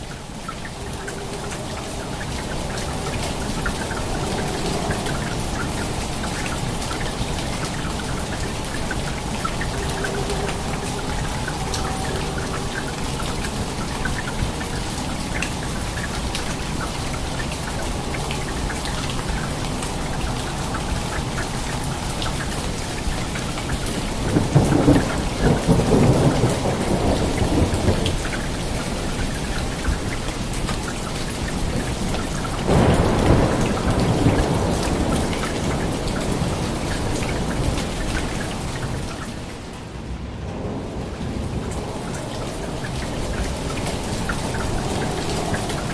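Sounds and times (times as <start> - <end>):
thunder rumbling: 0.0 - 30.7, 31.3 - 45.9
steady rain: 0.0 - 45.9.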